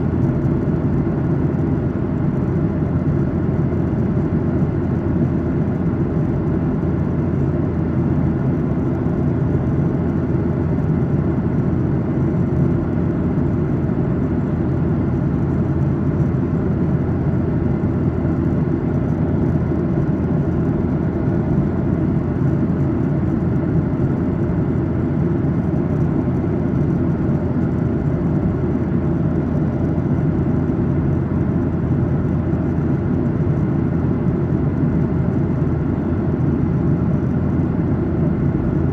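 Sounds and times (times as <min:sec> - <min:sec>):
airplane cabin noise: 0:00.0 - 0:38.9.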